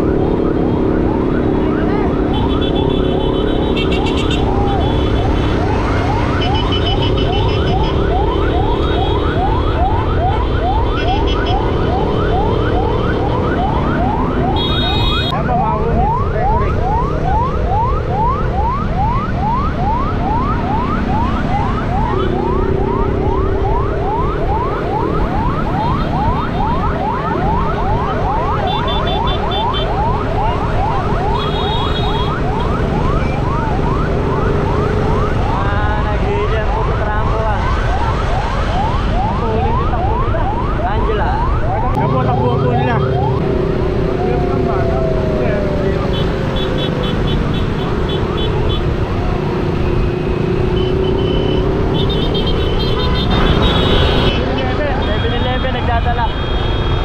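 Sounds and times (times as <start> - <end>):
motorcycle engine drone: 0.0 - 54.6
rapid yelp siren: 0.0 - 57.0.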